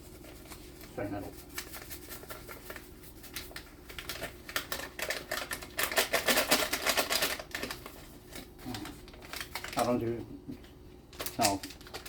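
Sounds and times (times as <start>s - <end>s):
powder packet crackling and rustling: 0.0s - 12.0s.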